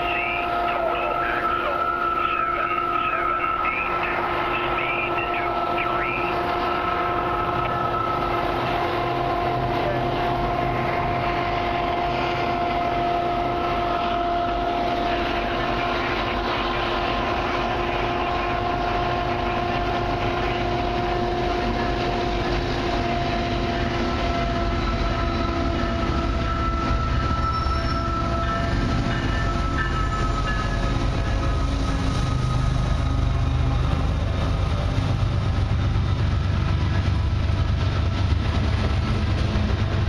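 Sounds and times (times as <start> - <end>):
freight train rumble: 0.0 - 40.0.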